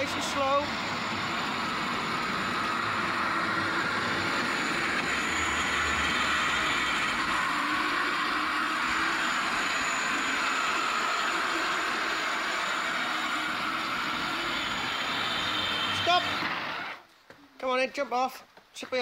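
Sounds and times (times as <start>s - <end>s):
electric motors whining: 0.0s - 17.1s.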